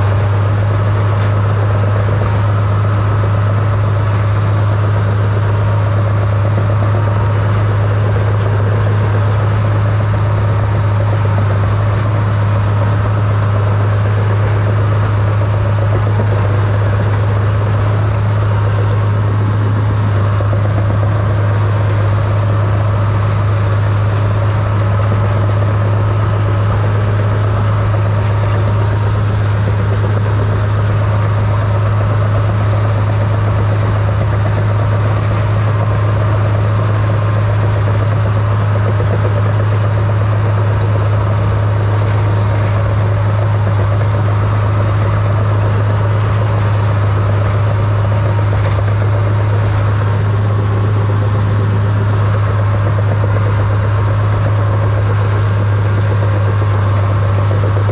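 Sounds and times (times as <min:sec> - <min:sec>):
dozer diesel engine drone: 0:00.0 - 0:57.9.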